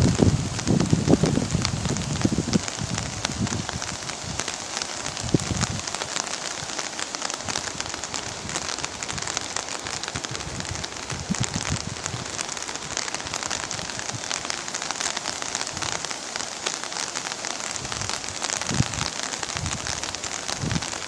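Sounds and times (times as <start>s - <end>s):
heavy rain on hard surfaces: 0.0s - 21.0s.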